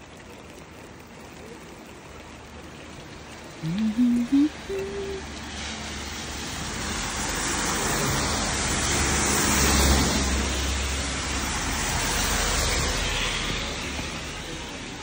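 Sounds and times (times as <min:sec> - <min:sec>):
vehicle passing on wet road: 0:00.1 - 0:15.0.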